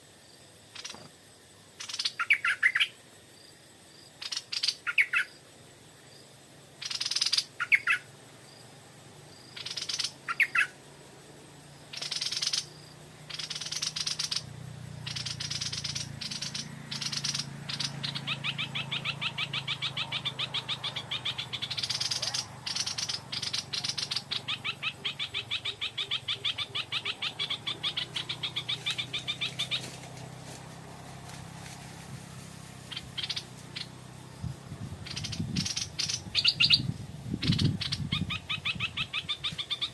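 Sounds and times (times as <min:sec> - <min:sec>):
birds calling and chattering: 0:00.7 - 0:01.1, 0:01.8 - 0:03.0, 0:04.2 - 0:05.4, 0:06.8 - 0:08.2, 0:09.0 - 0:39.9.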